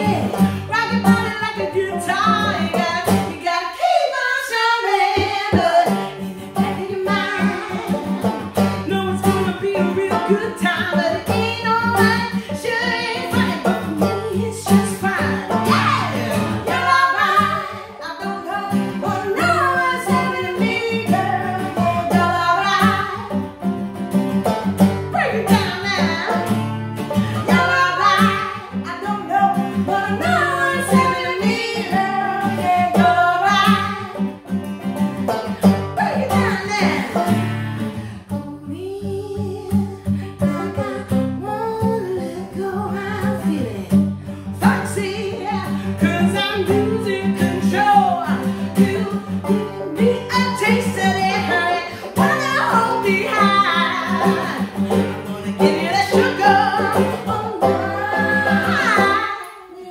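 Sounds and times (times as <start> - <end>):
women singing together: 0.0 - 23.3, 25.1 - 26.5, 27.2 - 34.4, 36.0 - 37.2, 38.2 - 44.0, 44.6 - 59.9
strummed acoustic guitar: 0.0 - 59.7
strummed banjo: 0.0 - 59.9.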